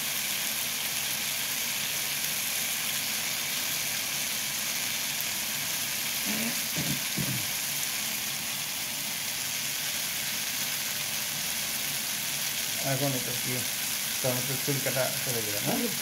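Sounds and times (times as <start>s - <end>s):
tomatoes sizzling in hot oil: 0.0s - 16.0s.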